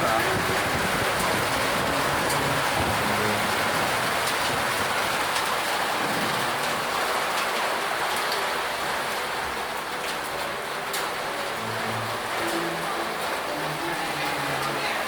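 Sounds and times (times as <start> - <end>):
hailstones ticking: 0.0 - 15.0
heavy rain pouring: 0.0 - 15.0.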